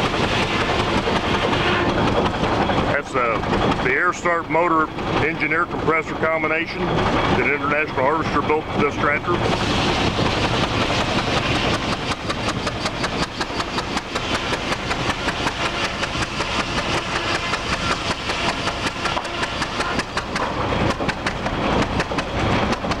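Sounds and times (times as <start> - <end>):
tractor engine knocking steadily: 0.0 - 23.0.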